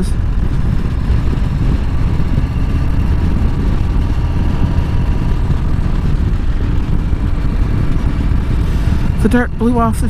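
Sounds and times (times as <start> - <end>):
motorcycle engine rumble: 0.0 - 10.0
road noise: 0.0 - 10.0.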